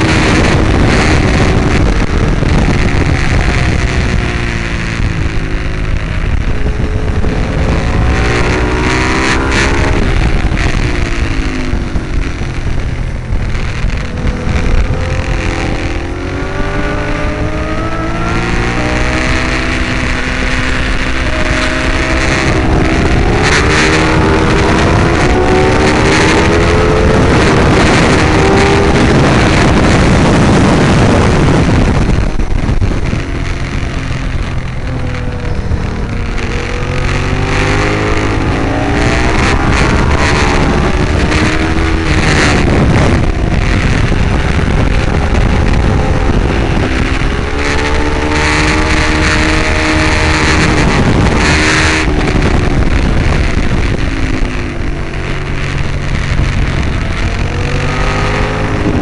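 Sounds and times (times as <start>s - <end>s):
motorcycle engine revving: 0.0s - 59.0s
wind noise on microphone: 0.0s - 59.0s.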